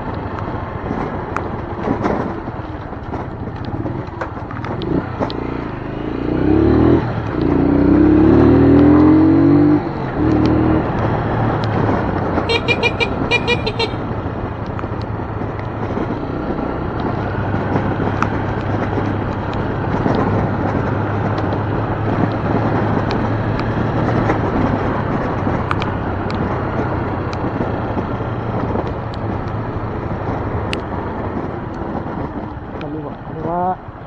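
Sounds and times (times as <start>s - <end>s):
motorcycle engine cruising: 0.0s - 34.0s
wind and road noise: 0.0s - 34.0s.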